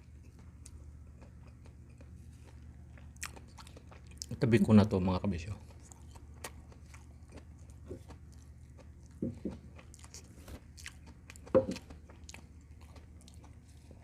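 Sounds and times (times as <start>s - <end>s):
person chewing and eating: 0.0s - 4.5s, 5.4s - 14.0s.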